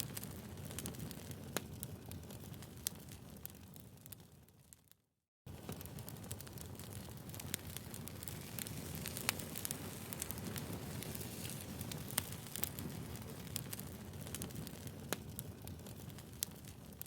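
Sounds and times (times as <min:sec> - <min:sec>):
fire flames rushing: 0:00.0 - 0:03.9, 0:05.5 - 0:17.0
fire crackling and popping: 0:00.0 - 0:17.0.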